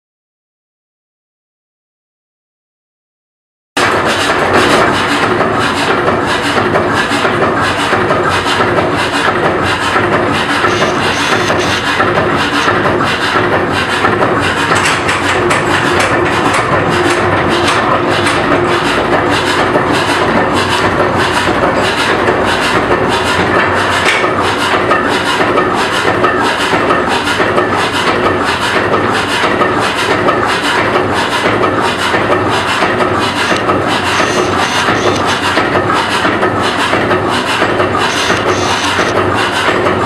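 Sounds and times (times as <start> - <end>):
slow-running engine knocking rhythmically: 3.8 - 40.0.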